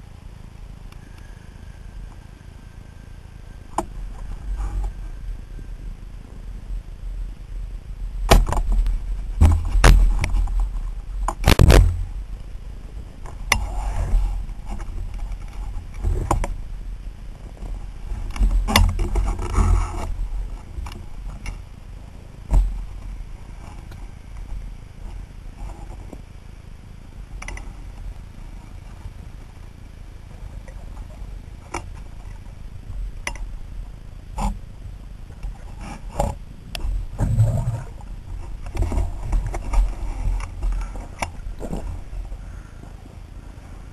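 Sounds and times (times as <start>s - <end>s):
low underwater rumble: 1.2s - 43.9s.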